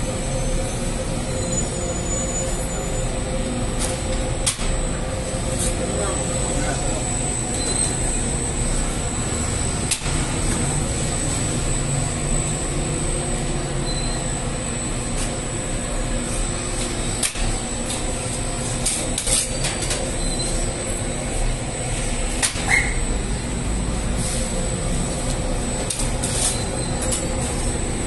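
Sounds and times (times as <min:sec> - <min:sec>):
machinery rumble and hum: 0:00.0 - 0:28.0.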